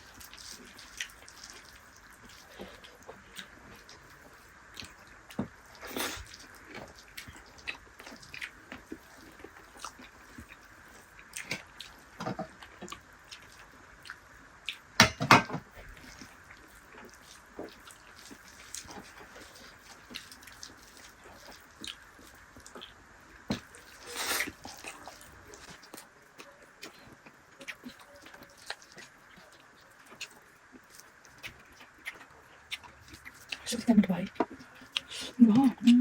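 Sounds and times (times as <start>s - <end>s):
chewing and lip smacks: 0.0s - 14.9s, 15.8s - 36.0s.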